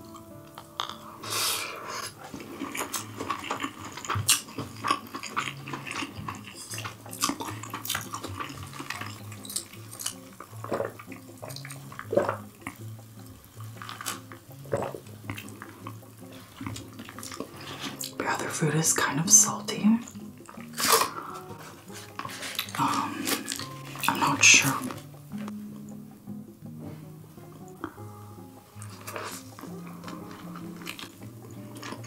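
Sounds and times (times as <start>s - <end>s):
chewing and mouth sounds: 0.0s - 18.2s, 20.1s - 26.0s, 28.8s - 32.0s.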